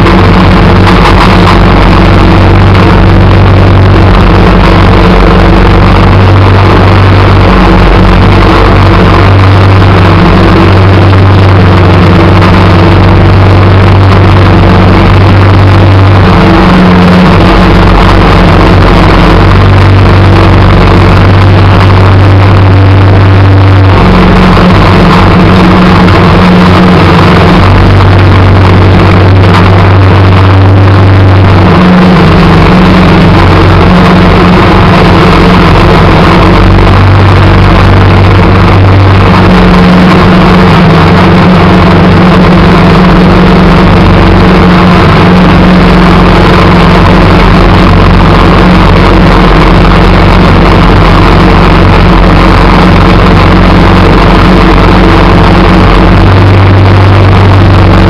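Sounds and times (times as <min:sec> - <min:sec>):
snowplow engine running: 0:00.0 - 0:58.0.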